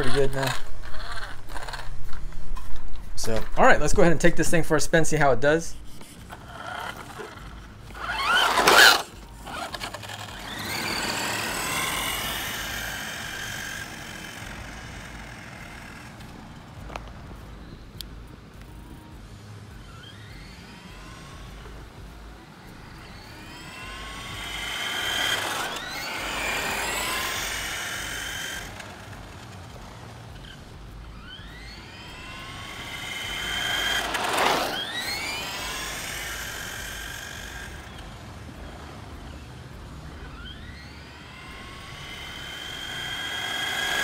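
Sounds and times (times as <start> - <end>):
toy truck motor whining: 0.0 - 2.1, 5.9 - 17.0, 19.8 - 39.4, 40.0 - 44.0.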